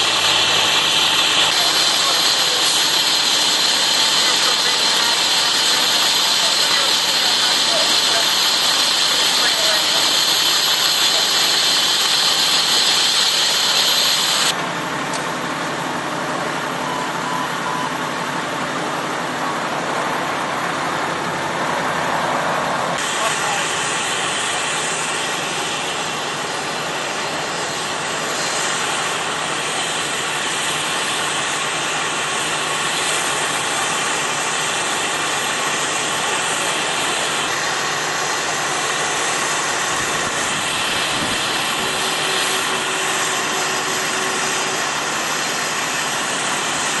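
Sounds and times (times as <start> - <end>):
rushing vehicle engine noise: 0.0 - 47.0.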